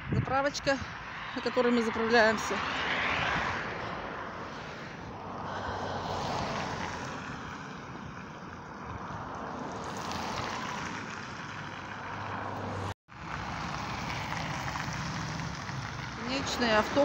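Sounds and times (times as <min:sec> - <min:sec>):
cars passing on road: 0:00.0 - 0:17.0.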